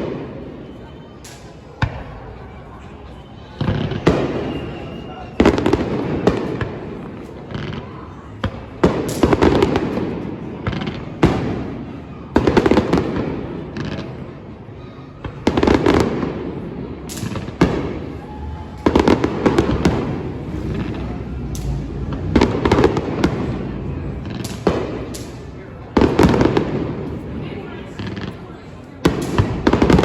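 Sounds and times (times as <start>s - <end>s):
fireworks bangs with crackling: 0.0s - 2.6s, 3.6s - 14.5s, 15.2s - 30.0s.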